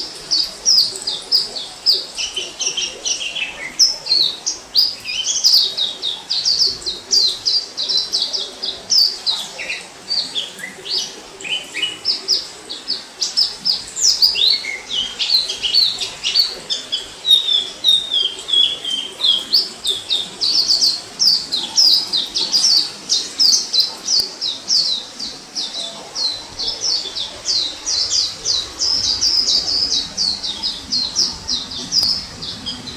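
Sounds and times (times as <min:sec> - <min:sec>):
bird twittering high chirps: 0:00.0 - 0:32.9.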